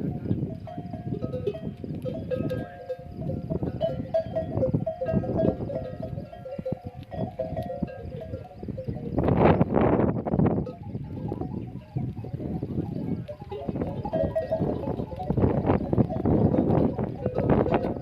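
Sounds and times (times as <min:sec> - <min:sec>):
camel bells clinking: 0:00.0 - 0:18.0.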